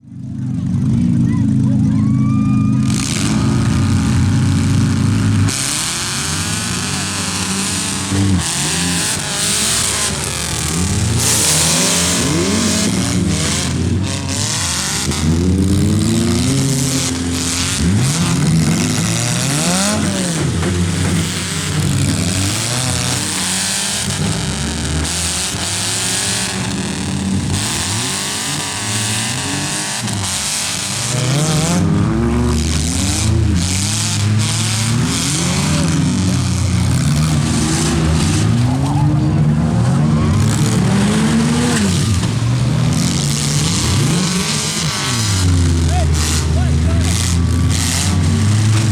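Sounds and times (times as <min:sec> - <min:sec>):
car engines revving: 0:00.0 - 0:48.9
cars colliding with bangs: 0:02.8 - 0:48.9.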